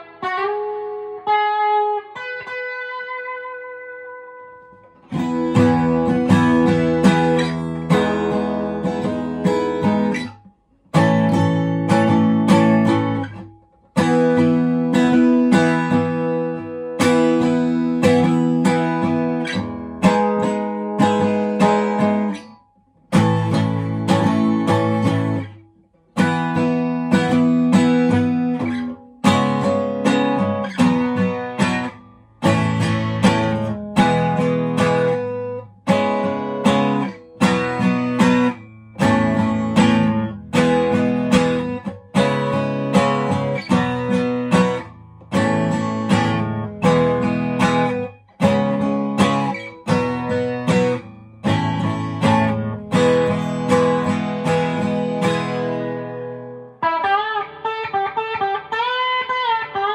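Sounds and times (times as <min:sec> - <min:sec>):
acoustic guitar strummed chords: 0:00.0 - 0:59.9.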